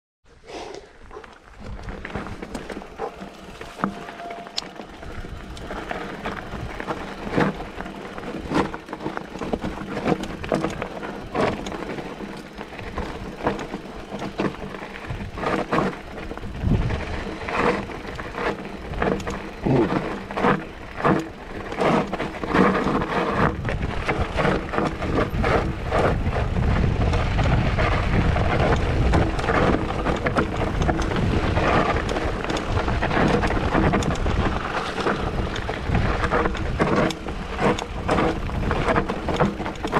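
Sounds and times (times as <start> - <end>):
tyres crunching over gravel: 1.0 - 39.9
wind rumble on microphone: 1.0 - 39.9
bike clattering: 1.1 - 39.9.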